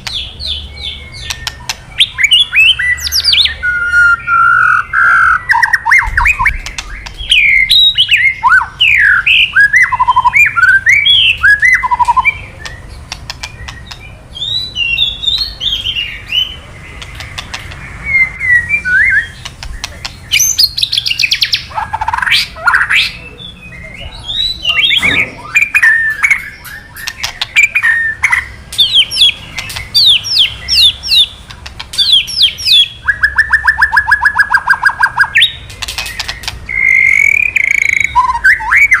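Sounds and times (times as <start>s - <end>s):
bird whistling and crackling: 1.2s - 23.2s, 24.3s - 39.0s.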